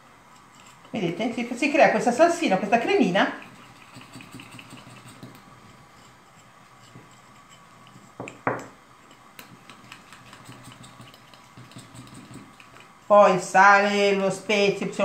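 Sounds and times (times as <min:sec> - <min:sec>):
fork stirring thick paste: 0:00.3 - 0:13.0.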